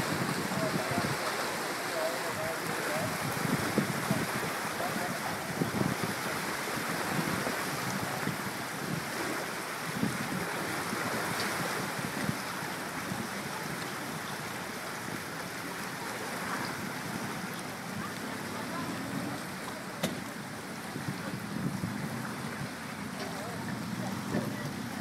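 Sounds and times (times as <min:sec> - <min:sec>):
wind buffeting microphone: 0:00.0 - 0:14.4, 0:16.6 - 0:25.0.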